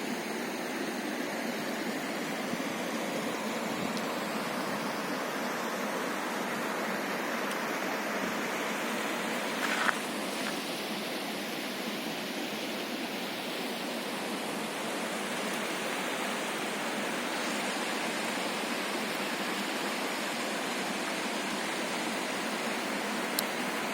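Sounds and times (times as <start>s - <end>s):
floodwater rushing: 0.0s - 23.9s.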